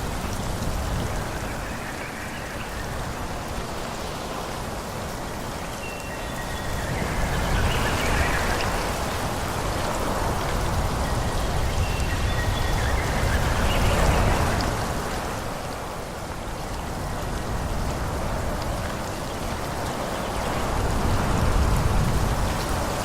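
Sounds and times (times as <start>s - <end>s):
wind blowing through trees: 0.0s - 23.0s.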